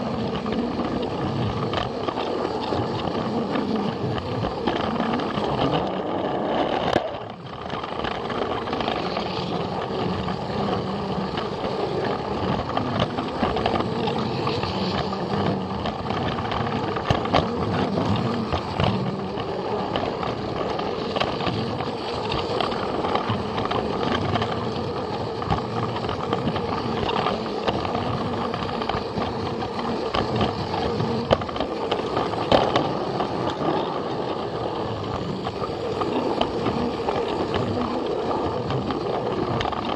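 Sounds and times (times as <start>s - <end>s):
toy train motor whine: 0.0s - 39.9s
wheel rattle: 0.0s - 39.9s.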